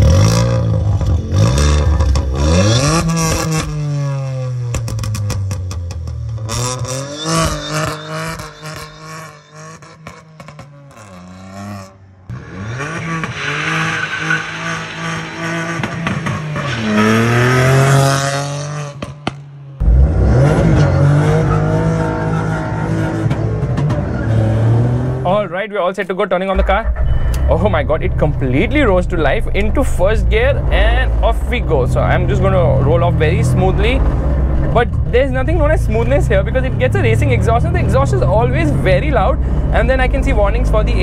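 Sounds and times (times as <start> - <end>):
rally car engine revving: 0.0 - 25.4, 26.6 - 41.0.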